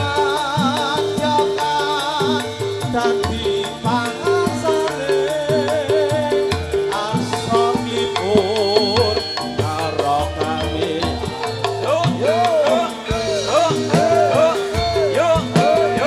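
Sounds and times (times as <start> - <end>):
drum strokes: 0.0 - 16.0
gamelan music: 0.0 - 16.0.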